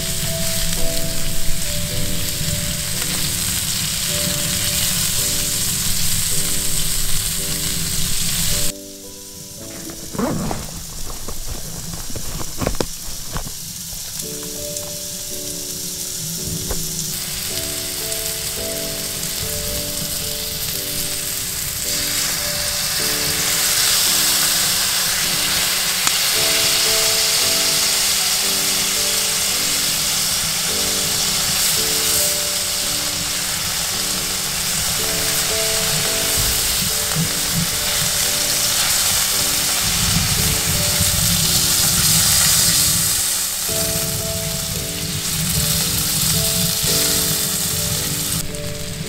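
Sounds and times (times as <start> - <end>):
background music melody: 0.0 - 49.0
scallops sizzling on griddle: 0.0 - 49.0.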